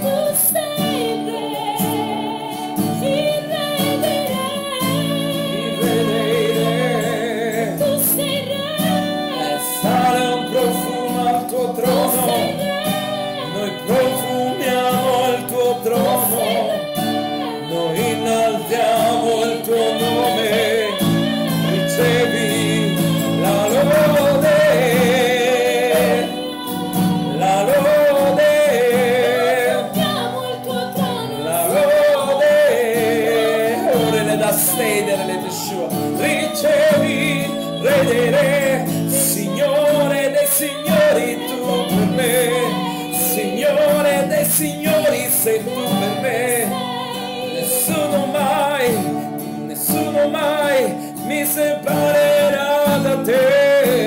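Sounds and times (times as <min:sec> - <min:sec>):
acoustic guitar: 0:00.0 - 0:54.0
man and woman singing: 0:00.0 - 0:54.0.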